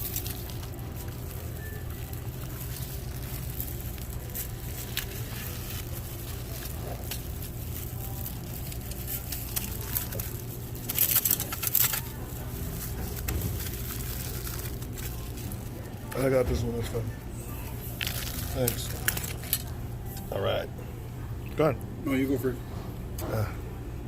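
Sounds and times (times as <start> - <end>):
crackling rustling handling noise: 0.0 - 20.6.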